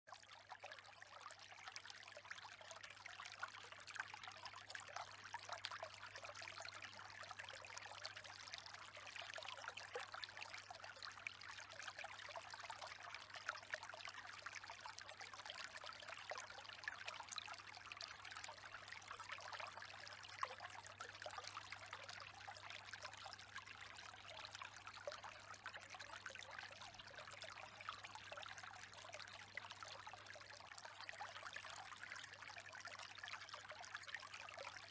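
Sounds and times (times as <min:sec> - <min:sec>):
trickle of running water: 0:00.1 - 0:34.9.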